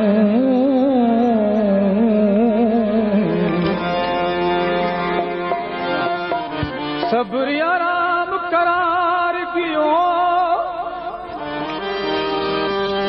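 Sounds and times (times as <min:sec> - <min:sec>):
ornamented melody with long notes: 0:00.0 - 0:08.6, 0:10.3 - 0:13.0.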